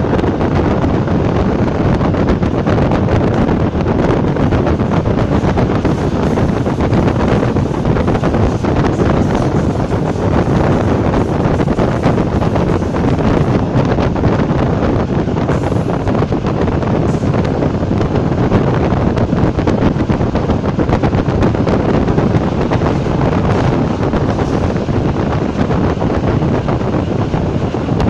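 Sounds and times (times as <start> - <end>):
train rushing and rumbling: 0.0 - 28.0
wind noise: 0.0 - 28.0.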